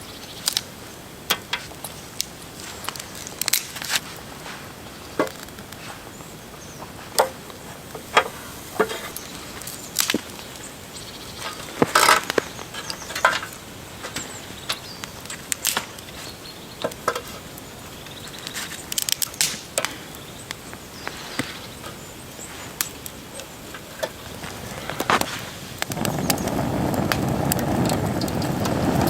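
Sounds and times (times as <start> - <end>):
faint hiss: 0.0 - 29.0.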